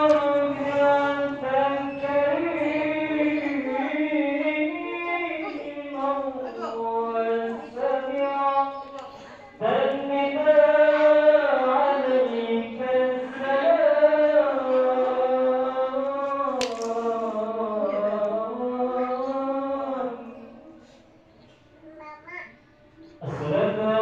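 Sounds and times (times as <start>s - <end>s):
person singing chant-like notes: 0.0s - 21.1s.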